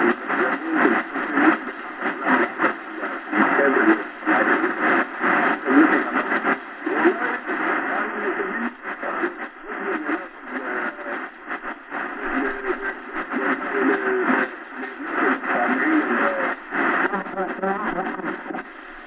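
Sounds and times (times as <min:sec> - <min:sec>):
radio voice through small speaker: 0:00.0 - 0:18.7
radio static: 0:00.0 - 0:19.0.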